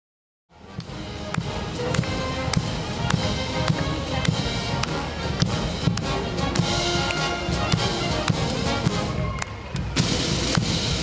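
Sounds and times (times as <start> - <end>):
military marching band: 0.5 - 11.0.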